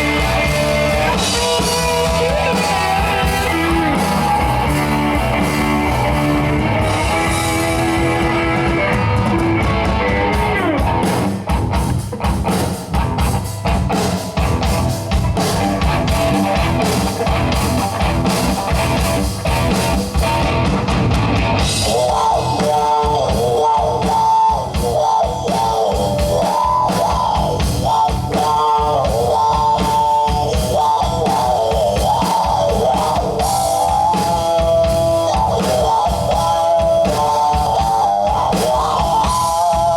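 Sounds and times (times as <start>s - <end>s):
rock band playing: 0.0s - 39.9s
sliding lead guitar line: 0.0s - 39.9s.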